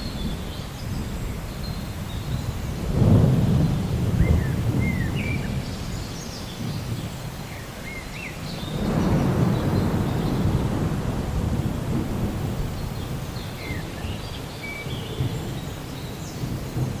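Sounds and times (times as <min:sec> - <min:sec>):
low rumbles of thunder: 0:00.0 - 0:17.0
rain falling: 0:00.0 - 0:17.0.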